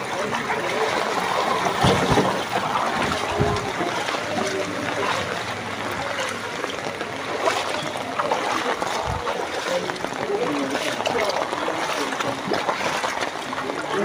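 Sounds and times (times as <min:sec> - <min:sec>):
faint voices: 0:00.0 - 0:14.0
floodwater splashing and running: 0:00.0 - 0:14.0.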